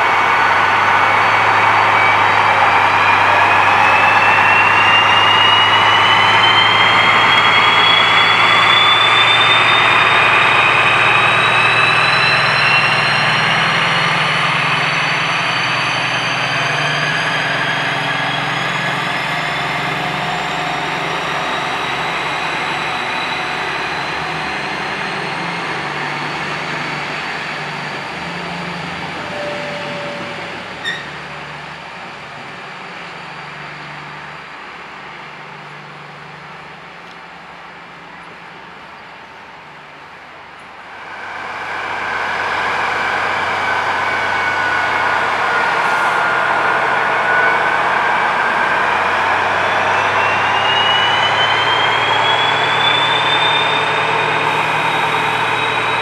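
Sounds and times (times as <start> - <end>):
diesel locomotive engine: 0.0 - 56.0
high whine: 0.0 - 56.0.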